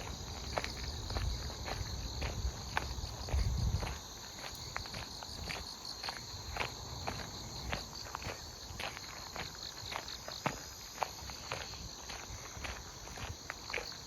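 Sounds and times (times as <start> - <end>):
footsteps on a path: 0.0 - 14.0
insects chirring: 0.0 - 14.0.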